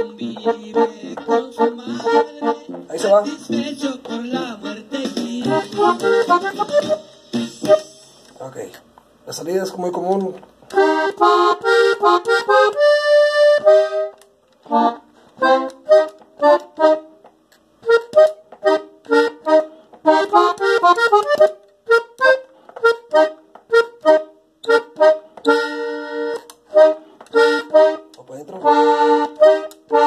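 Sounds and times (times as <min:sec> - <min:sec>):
button accordion melody: 0:00.0 - 0:08.4, 0:10.7 - 0:30.0.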